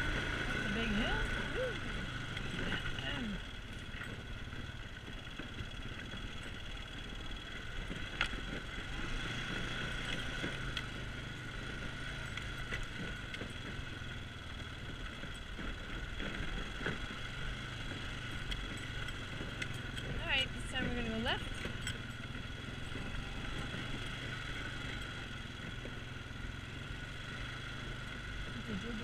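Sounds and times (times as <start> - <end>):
atv engine droning: 0.0 - 29.0
high engine whine: 0.0 - 29.0.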